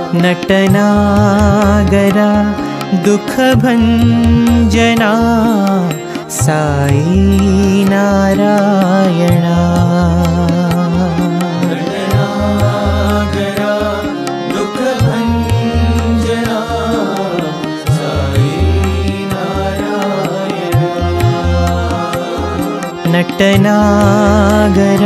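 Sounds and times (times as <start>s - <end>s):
devotional instrumental music: 0.0s - 25.0s.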